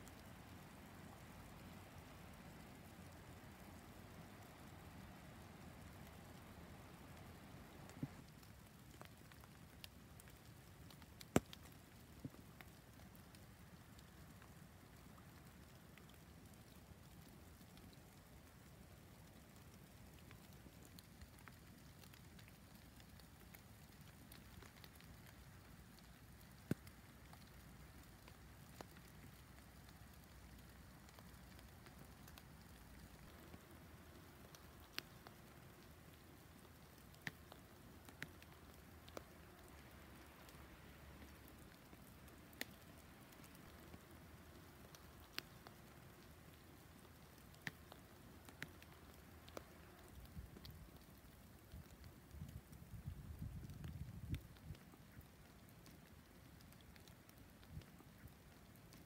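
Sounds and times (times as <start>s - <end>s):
faint steady hiss: 0.0s - 59.0s
falling snow ticking: 0.0s - 59.0s.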